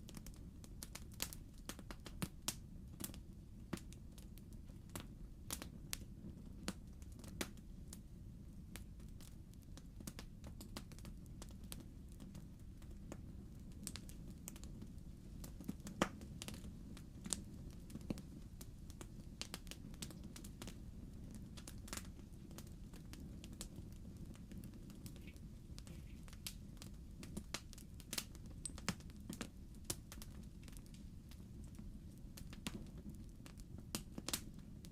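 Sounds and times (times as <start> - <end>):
logs crackling and popping: 0.0 - 8.0, 8.7 - 34.9
low rumble of flames: 0.0 - 34.9.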